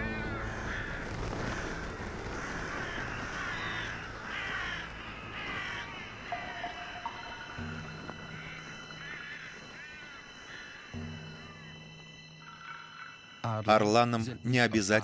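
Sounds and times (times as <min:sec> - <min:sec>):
crows cawing: 0:00.0 - 0:13.4.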